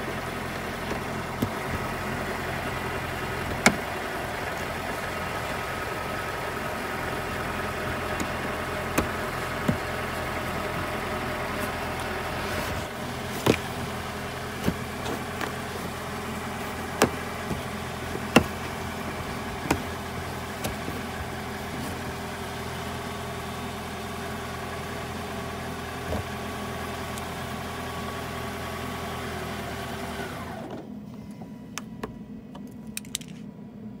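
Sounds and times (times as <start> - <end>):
car engine idling: 0.0 - 30.6.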